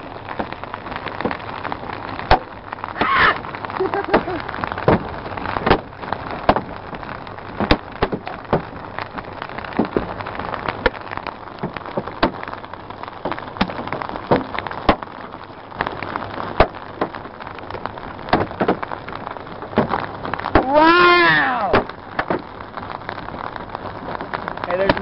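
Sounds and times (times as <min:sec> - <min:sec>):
hailstones knocking on car body: 0:00.0 - 0:25.0
rain hissing on a car: 0:00.0 - 0:25.0.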